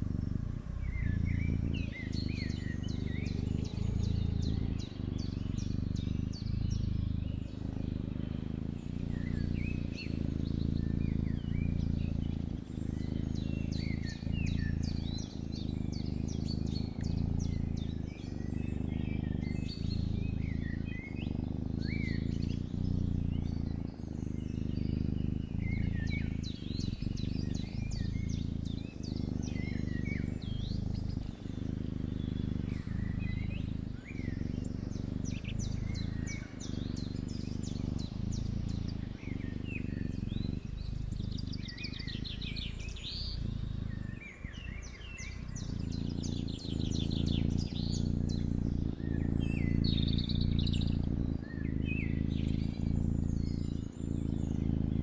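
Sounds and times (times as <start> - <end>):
low steady rumble: 0.0 - 55.0
small birds chirping: 0.0 - 55.0.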